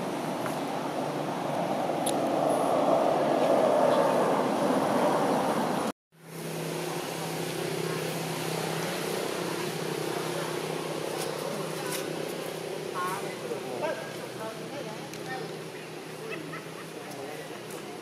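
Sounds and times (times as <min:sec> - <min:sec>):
engine hum: 0:00.0 - 0:18.0
vehicle rumble: 0:00.0 - 0:18.0.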